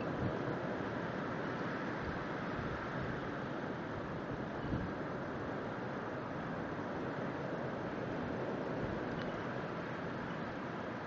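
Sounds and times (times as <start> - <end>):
wind blowing snow: 0.0 - 11.0.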